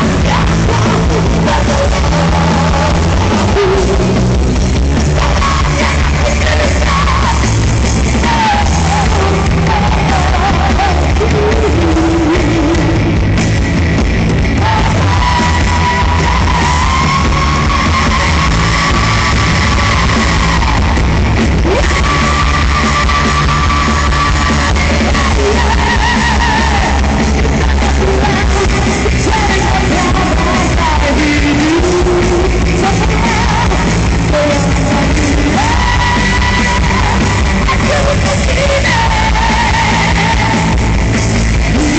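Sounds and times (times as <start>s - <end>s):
live rock band playing: 0.0s - 41.9s
vocalist singing: 0.0s - 41.9s.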